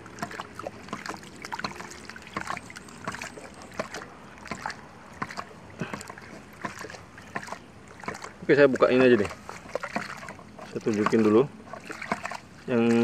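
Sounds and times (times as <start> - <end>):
water spurting and splashing: 0.0 - 13.0.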